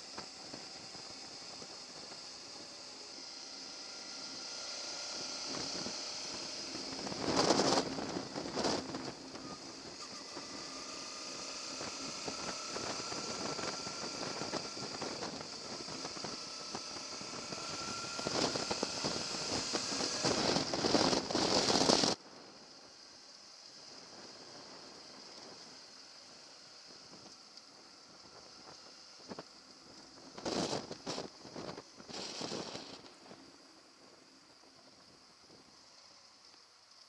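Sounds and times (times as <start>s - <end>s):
motorcycle engine: 0.0s - 37.0s
wind and road noise: 0.0s - 37.0s.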